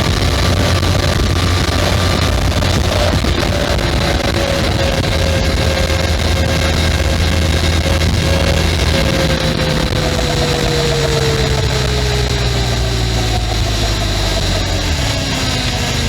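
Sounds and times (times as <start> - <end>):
motorcycle engine running: 0.0 - 16.0
thin whine falling in pitch: 0.0 - 16.0.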